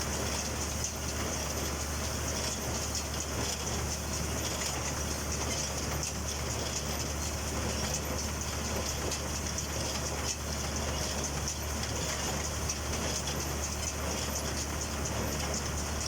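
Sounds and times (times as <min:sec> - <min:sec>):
baler mechanical clatter: 0:00.0 - 0:16.0.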